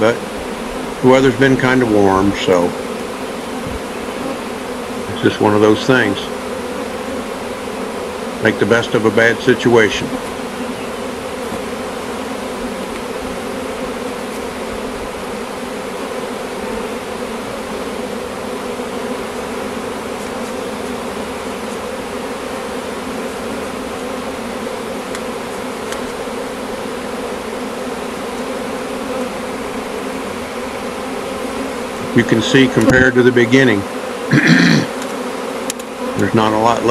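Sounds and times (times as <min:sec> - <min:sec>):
bees buzzing: 0:00.0 - 0:36.9.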